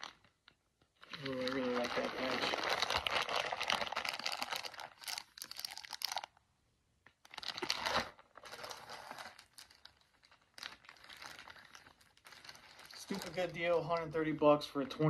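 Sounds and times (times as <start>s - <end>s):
plastic bag crinkling: 1.0s - 6.4s, 7.2s - 14.3s.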